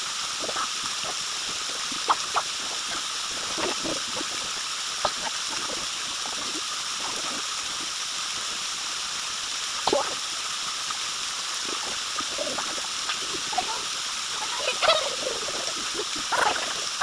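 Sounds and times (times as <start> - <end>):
water splashing: 0.0 - 17.0
waterfall rushing: 0.0 - 17.0.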